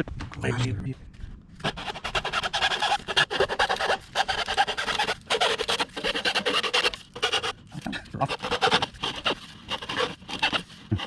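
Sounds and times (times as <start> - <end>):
blade rasping through hose: 1.6 - 11.0.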